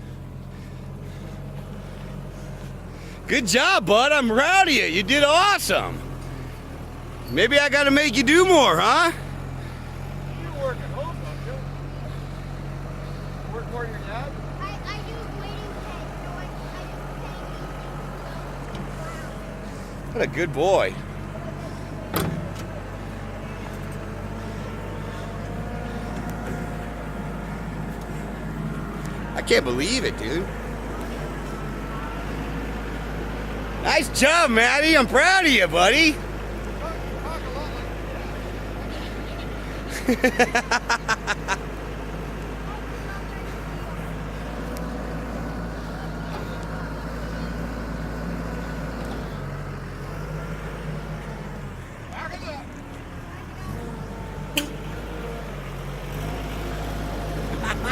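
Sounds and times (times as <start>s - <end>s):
farm vehicle engine running: 0.0s - 57.9s.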